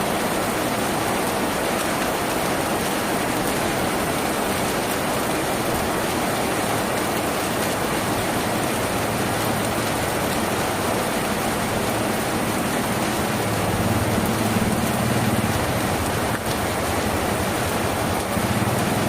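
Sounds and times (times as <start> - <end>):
heavy rain on a tin roof: 0.0 - 19.0.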